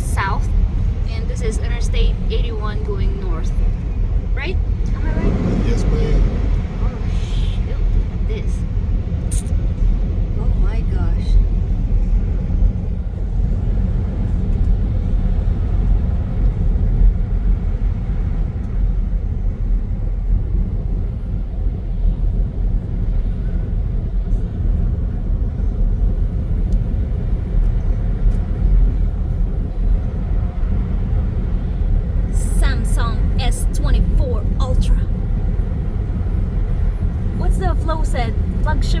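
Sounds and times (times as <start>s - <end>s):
car engine and tyre noise: 0.0s - 39.0s.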